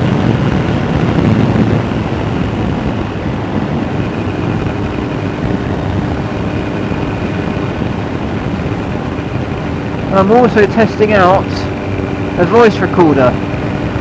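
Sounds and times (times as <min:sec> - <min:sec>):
motorcycle engine drone: 0:00.0 - 0:14.0
wind and road rush: 0:00.0 - 0:14.0.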